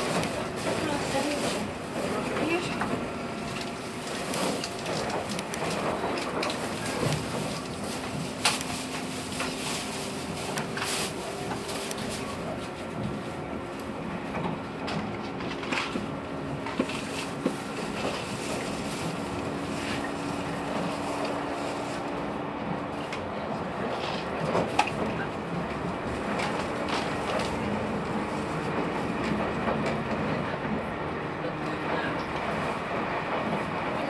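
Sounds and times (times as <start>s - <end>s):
train rumble: 0.0s - 34.0s.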